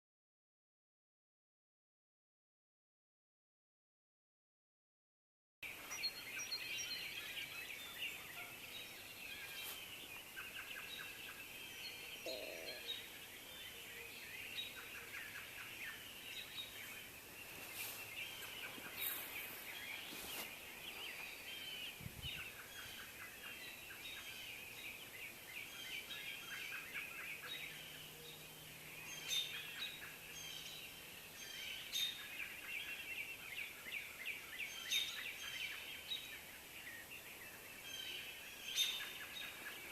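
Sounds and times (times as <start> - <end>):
background hiss: 5.6 - 39.9
small birds chirping: 5.6 - 39.9.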